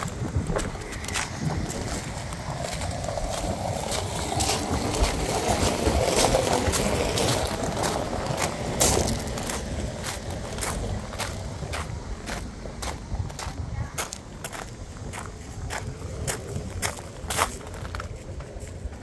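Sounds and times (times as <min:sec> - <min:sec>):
footsteps on gravel: 0:00.0 - 0:19.0.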